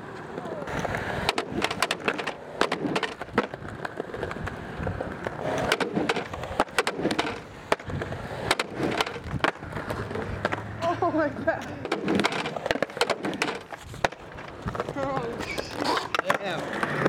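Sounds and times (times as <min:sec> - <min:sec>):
skateboard clacking on ground: 0:00.0 - 0:17.0
skateboard wheels rolling on pavement: 0:00.0 - 0:17.0.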